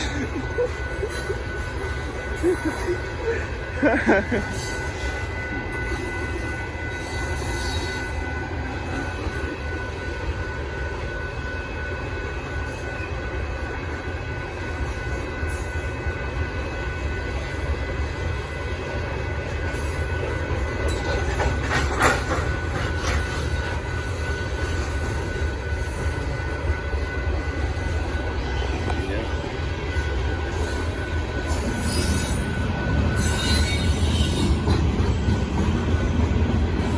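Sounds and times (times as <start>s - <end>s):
freight train wheels rumbling on rail: 0.0s - 36.9s.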